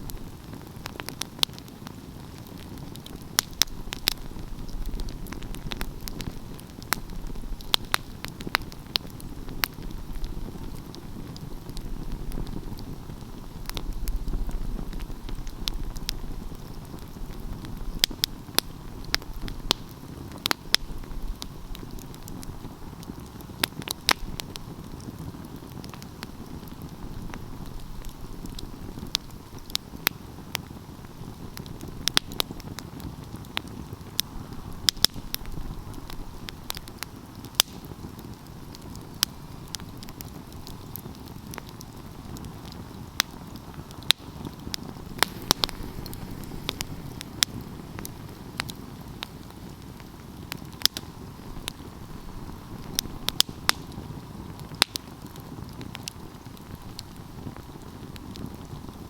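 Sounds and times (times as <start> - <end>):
flames rushing: 0.0 - 59.0
wood crackling and popping: 0.0 - 59.0.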